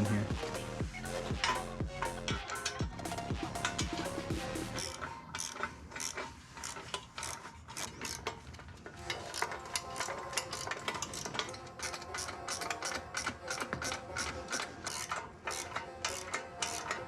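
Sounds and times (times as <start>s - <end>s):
hand ratchet clicking: 0.4s - 17.0s.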